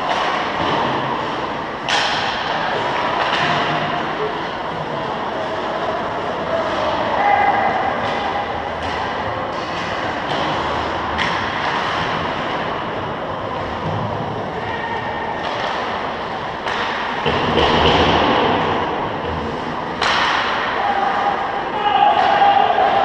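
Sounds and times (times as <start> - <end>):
skating and play noise: 0.0 - 23.0.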